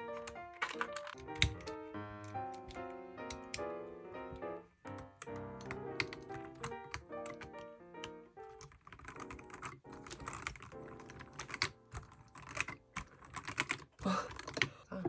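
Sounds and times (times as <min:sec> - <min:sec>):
mechanical keyboard clacking: 0:00.0 - 0:14.8.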